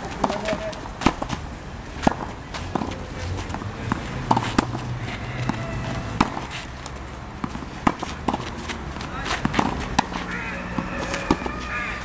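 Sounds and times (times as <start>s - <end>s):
tennis balls bouncing on court: 0.0s - 11.7s
tennis balls hitting rackets: 0.0s - 12.0s.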